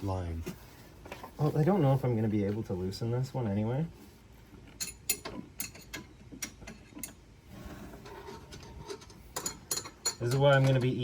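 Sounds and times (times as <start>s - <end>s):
quiet fiddling with tools: 0.0s - 11.0s.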